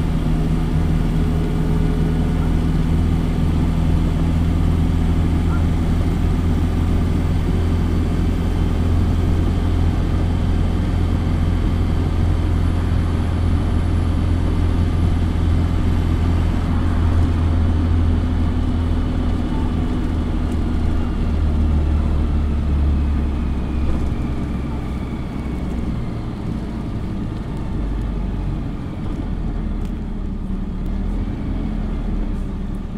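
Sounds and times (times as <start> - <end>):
bus engine drone: 0.0 - 32.9
tyre and road noise: 0.0 - 32.9.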